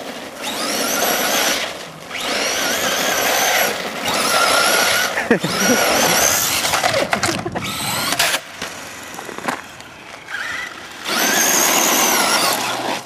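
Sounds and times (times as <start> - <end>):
electric motor whining: 0.0 - 13.0
tyres on loose gravel: 0.0 - 13.0.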